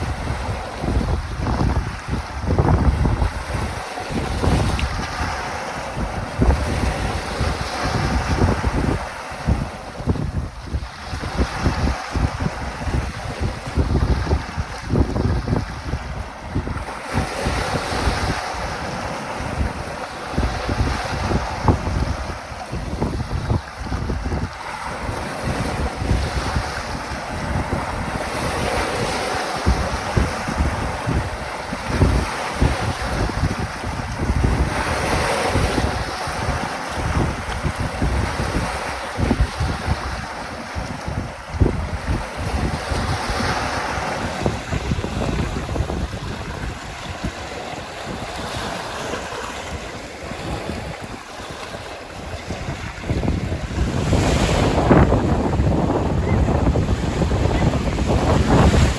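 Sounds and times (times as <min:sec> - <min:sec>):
waves washing in: 0:00.0 - 0:58.9
wind buffeting microphone: 0:00.0 - 0:58.9.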